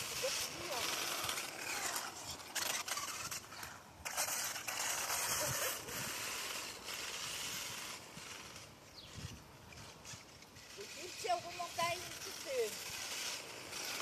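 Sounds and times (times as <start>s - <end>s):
tyres rushing over paving stones: 0.0s - 8.8s, 9.9s - 14.0s
electric toy truck motor: 0.0s - 14.0s.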